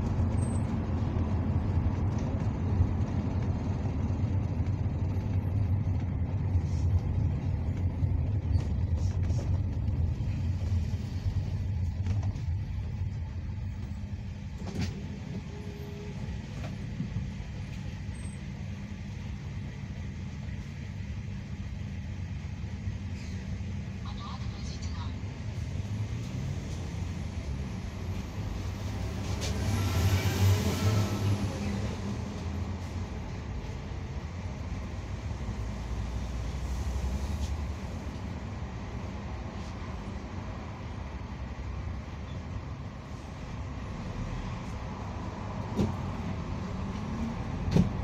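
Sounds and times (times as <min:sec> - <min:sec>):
bus engine and road rumble: 0:00.0 - 0:48.0.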